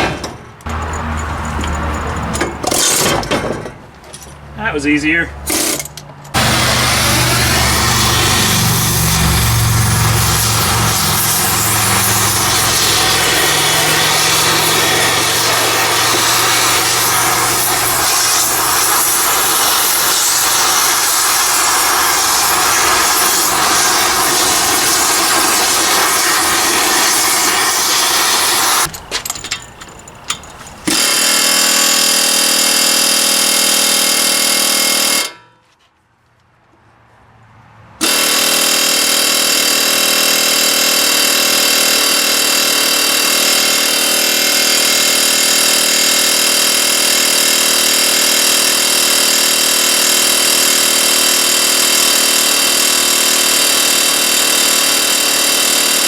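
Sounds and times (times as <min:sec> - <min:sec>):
loud power tool running: 0:05.5 - 0:28.9, 0:30.8 - 0:35.3, 0:38.0 - 0:56.0.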